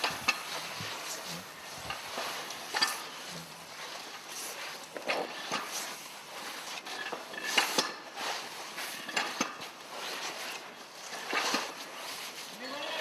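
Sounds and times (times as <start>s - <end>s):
knocks and metallic clatter: 0.0s - 12.3s.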